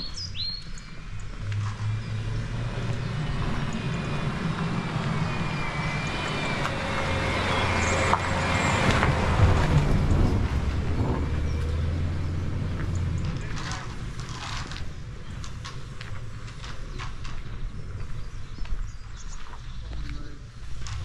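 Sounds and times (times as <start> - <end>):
car engine rumble: 0.0 - 21.0
tyre noise on wet road: 0.0 - 21.0.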